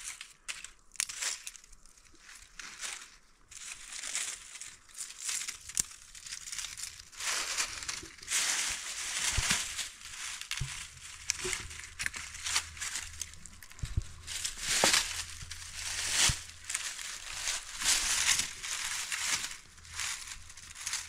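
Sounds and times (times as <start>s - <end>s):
dry leaves crunching and rustling: 0.0s - 21.0s.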